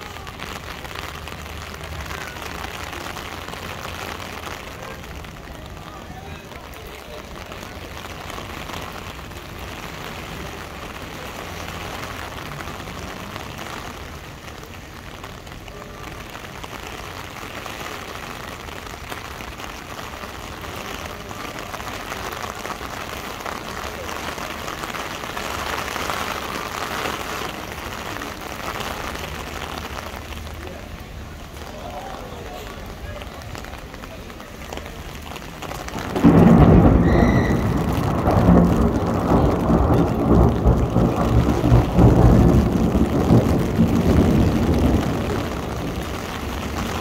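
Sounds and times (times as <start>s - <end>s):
rain falling on street: 0.0s - 47.0s.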